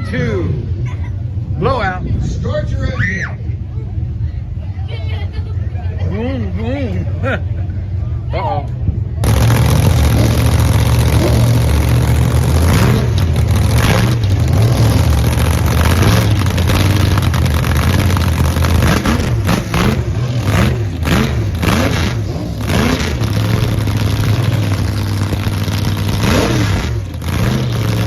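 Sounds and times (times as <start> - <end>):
car engines revving: 3.4 - 28.0.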